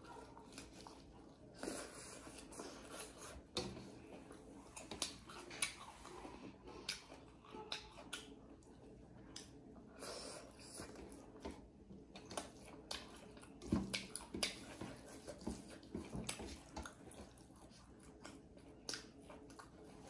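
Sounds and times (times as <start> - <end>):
chewing and lip-smacking: 0.1 - 20.0.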